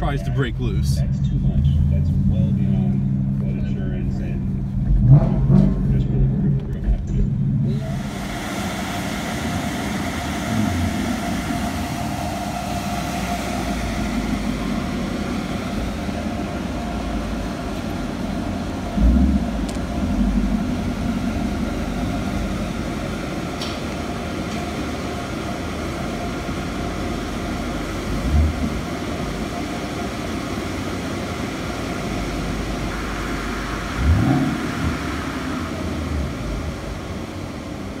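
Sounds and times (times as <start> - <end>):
car engine rumbling and revving: 0.0 - 38.0.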